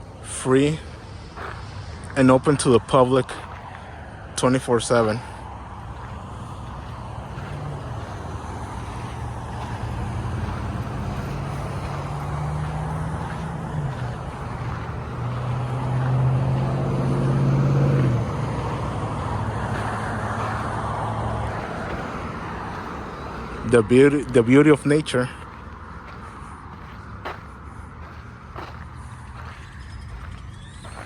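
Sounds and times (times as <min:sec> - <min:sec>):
road traffic rushing: 0:00.0 - 0:31.0.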